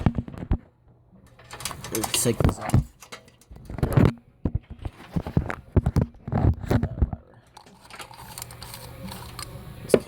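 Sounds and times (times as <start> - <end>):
plastic clicking and knocking: 0.0 - 8.6.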